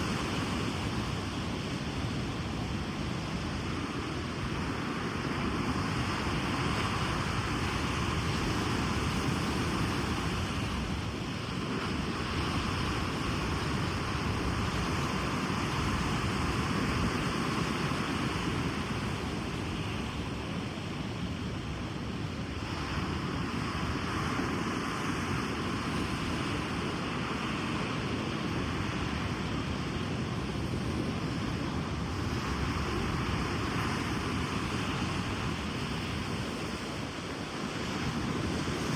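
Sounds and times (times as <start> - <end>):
ocean waves breaking: 0.0 - 38.9
wind on microphone: 0.0 - 38.9.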